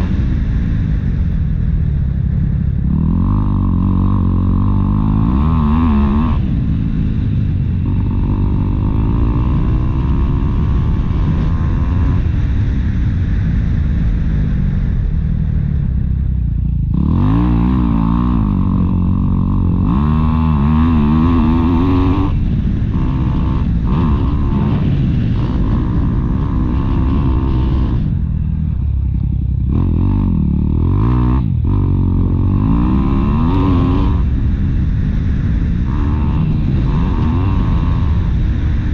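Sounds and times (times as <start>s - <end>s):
dirt bike engine revving: 2.8s - 13.4s, 16.8s - 38.9s.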